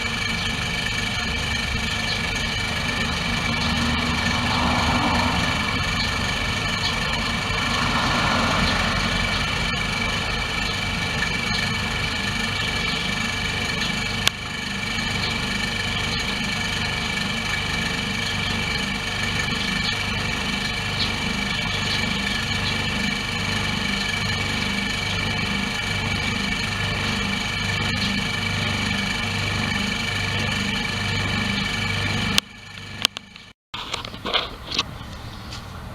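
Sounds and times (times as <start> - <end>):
car engine idling with whine: 0.0 - 35.9.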